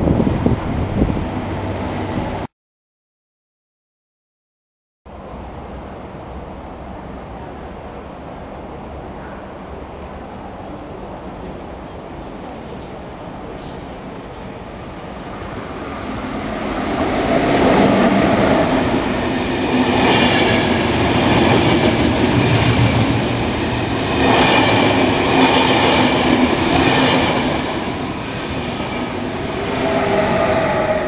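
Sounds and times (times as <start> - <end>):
passenger train passing at speed: 0.0 - 2.5, 5.1 - 31.0.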